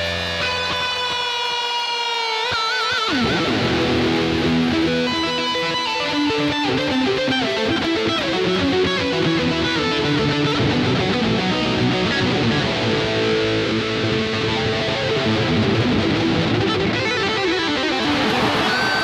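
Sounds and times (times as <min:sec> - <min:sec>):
electric guitar notes: 0:00.0 - 0:19.0.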